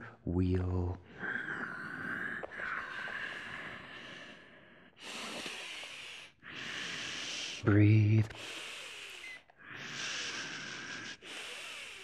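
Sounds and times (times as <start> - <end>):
man breathing through the nose: 1.1 - 7.7, 8.3 - 12.0.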